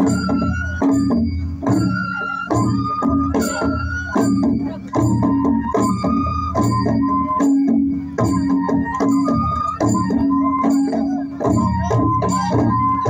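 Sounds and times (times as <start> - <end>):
drums beating rhythm: 0.0 - 13.0.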